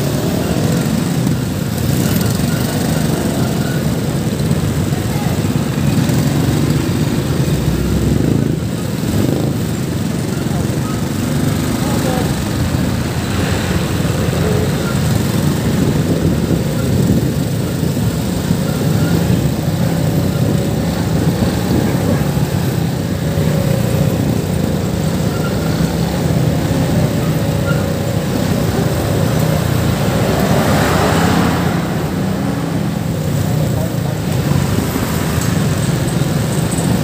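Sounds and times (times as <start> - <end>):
motorcycle engine running: 0.0 - 37.0
road and wind noise: 0.0 - 37.0.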